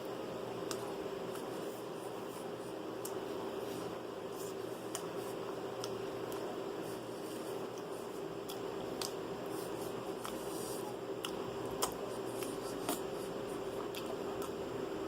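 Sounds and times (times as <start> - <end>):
steady low hum: 0.0 - 15.0
food being chewed: 0.6 - 14.7.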